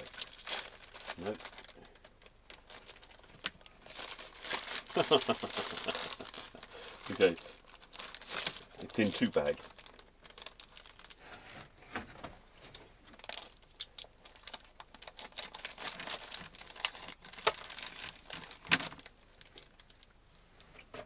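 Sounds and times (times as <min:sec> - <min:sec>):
plastic bags crinkling: 0:00.0 - 0:11.4, 0:12.3 - 0:20.2.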